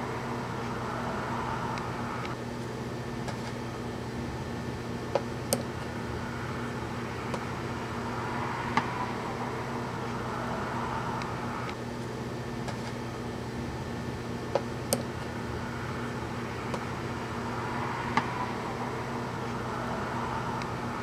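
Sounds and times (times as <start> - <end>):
low hum and hiss: 0.0 - 21.0.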